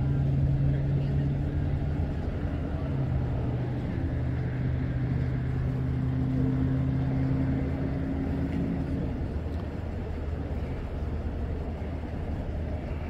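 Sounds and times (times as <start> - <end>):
low road rumble: 0.0 - 13.0
vehicle engine humming: 0.0 - 13.0.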